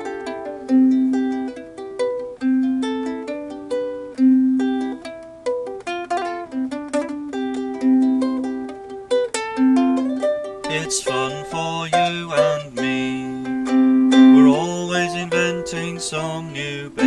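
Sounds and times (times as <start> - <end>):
ukulele plucked melody: 0.0 - 17.0
ukulele strummed chords: 0.0 - 17.0.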